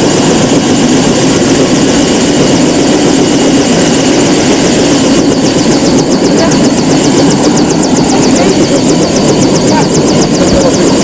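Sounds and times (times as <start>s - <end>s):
helicopter engine and rotor running: 0.0s - 11.0s
high-pitched whine: 0.0s - 11.0s.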